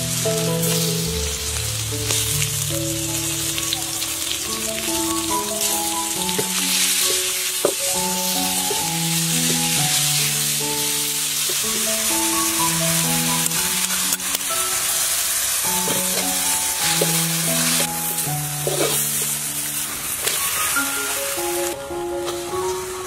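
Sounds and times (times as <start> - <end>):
background music of held notes: 0.0 - 23.0
meat sizzling in a wok: 0.0 - 23.0.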